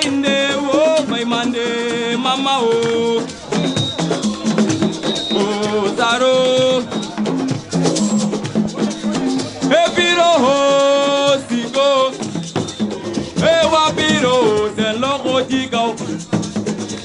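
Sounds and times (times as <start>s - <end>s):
bass line: 0.0s - 17.0s
shaker percussion: 0.0s - 17.0s.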